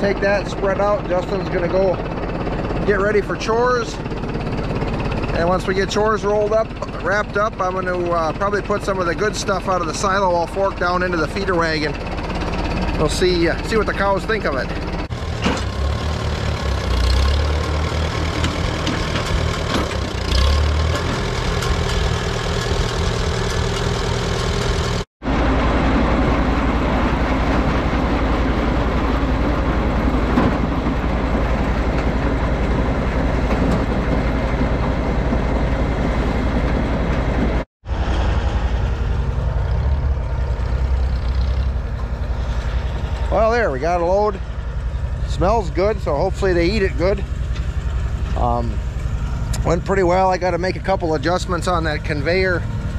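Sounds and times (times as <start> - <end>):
farm machinery noise: 0.0 - 52.9
tractor engine running: 0.0 - 52.9.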